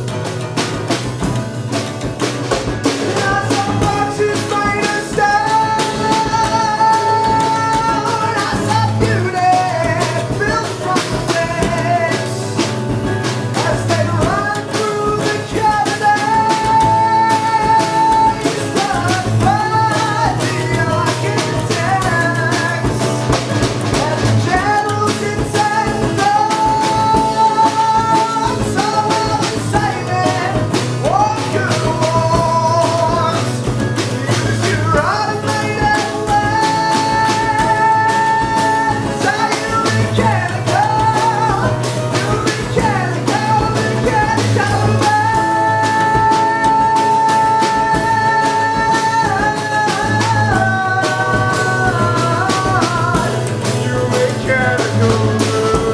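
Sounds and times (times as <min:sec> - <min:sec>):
rock band playing: 0:00.0 - 0:55.9.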